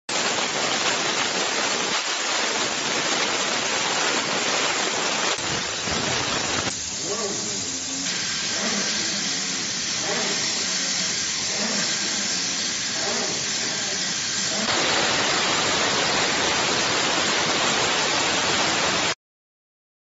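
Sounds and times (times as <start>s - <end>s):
pump running with hiss: 0.1s - 19.2s
waterjet cutting steel: 0.1s - 19.2s.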